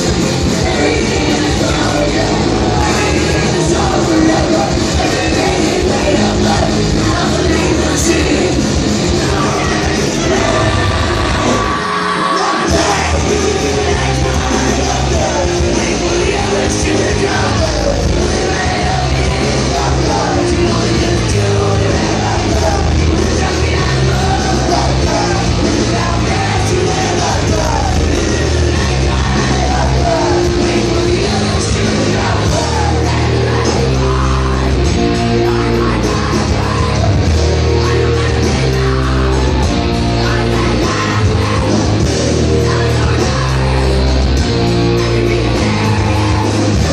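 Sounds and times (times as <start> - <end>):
punk band playing live: 0.0 - 46.9.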